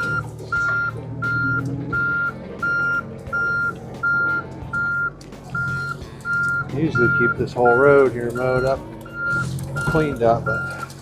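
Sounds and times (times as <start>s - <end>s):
backup alarm beeping: 0.0s - 11.0s
diesel engine humming: 0.0s - 11.0s.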